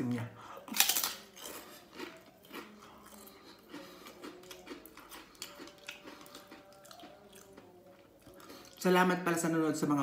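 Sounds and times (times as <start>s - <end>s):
faint chewing: 0.6s - 9.0s.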